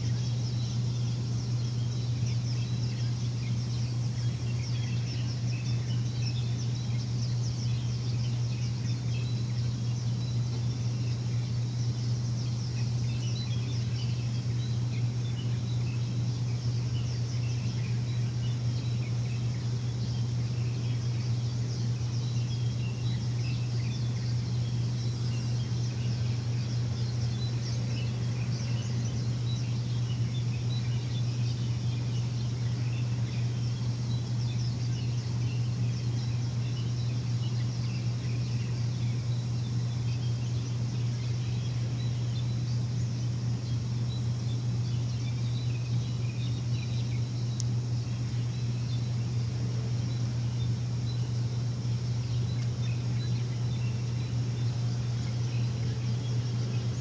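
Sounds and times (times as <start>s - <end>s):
birds chirping: 0.0s - 57.0s
low machine hum: 0.0s - 57.0s.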